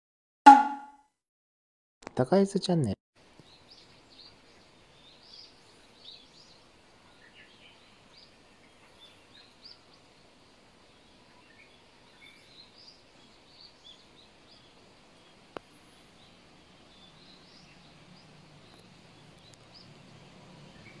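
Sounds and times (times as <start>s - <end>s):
small birds chirping: 3.3s - 21.0s.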